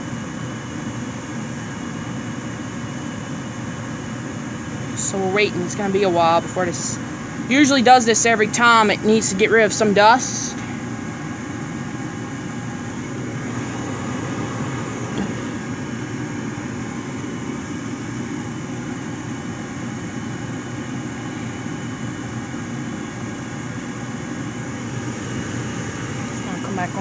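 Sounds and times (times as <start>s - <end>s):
furnace blower humming: 0.0s - 27.0s.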